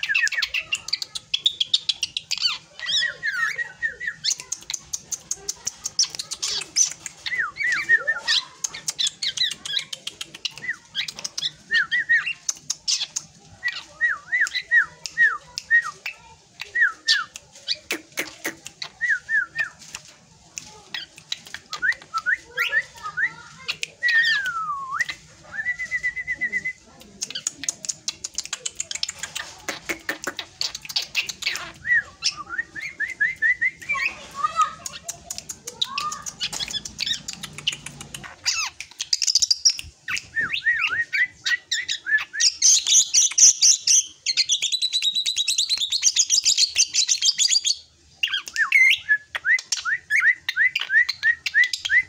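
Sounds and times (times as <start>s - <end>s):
bird singing varied song: 0.0s - 52.0s.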